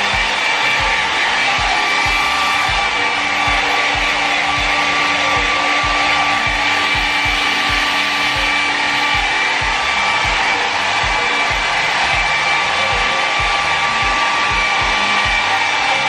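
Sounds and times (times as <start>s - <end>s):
background music with steady beat: 0.0s - 16.0s
hair dryer running: 0.0s - 16.0s.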